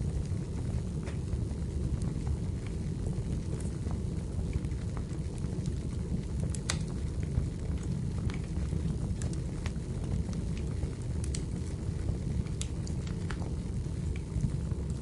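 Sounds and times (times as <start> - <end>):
crackles and pops of burning logs: 0.0 - 15.0
wood fire burning: 0.0 - 15.0.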